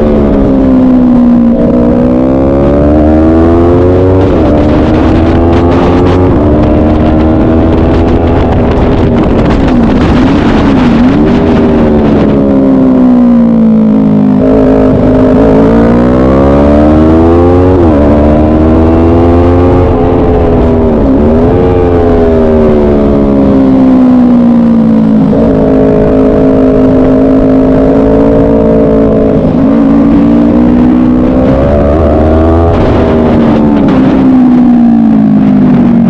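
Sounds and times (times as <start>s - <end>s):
motorcycle engine revving at speed: 0.0s - 36.0s
wind rushing over microphone: 0.0s - 36.0s.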